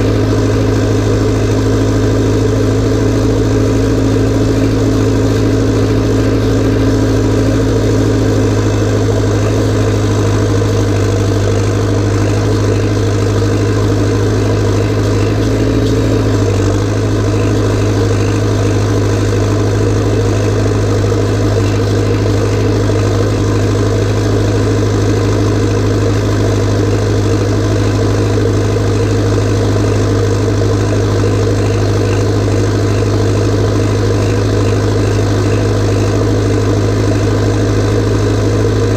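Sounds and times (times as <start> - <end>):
tractor diesel engine running loud: 0.0 - 38.9.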